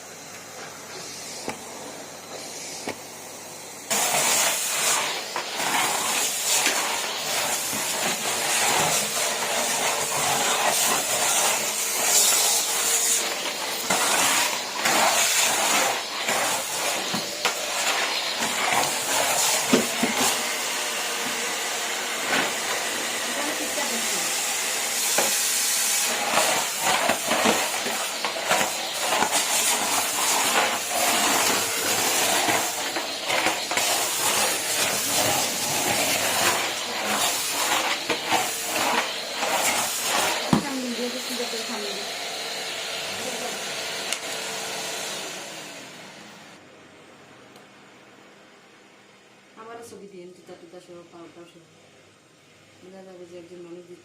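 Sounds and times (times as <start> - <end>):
vacuum cleaner running: 0.0 - 46.6.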